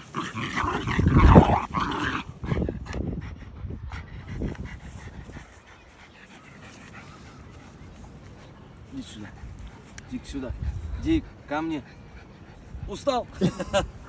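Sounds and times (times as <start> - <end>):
dog noises: 0.0 - 13.0.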